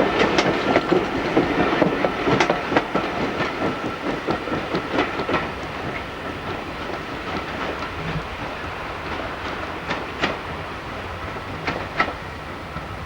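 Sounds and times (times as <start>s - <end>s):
train wheels clattering over rail: 0.0s - 13.0s.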